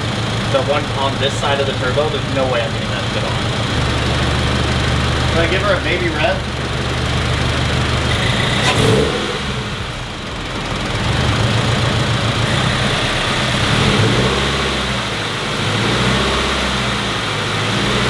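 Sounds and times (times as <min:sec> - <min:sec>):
car engine revving lightly: 0:00.0 - 0:18.0.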